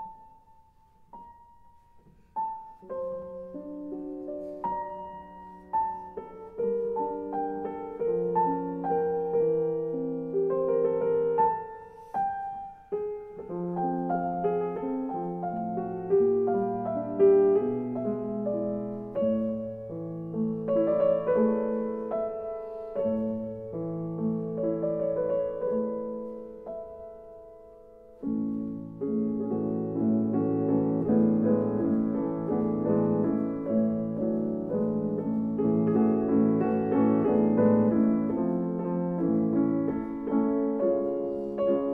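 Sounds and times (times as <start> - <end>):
piano music: 0.0 - 41.9.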